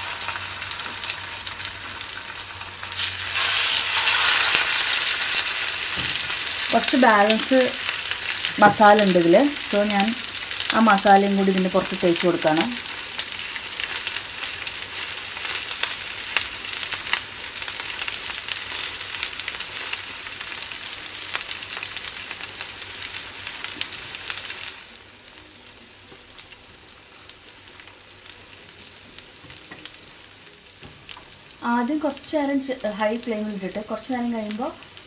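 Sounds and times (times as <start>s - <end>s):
fish sizzling in oil: 0.0s - 35.0s.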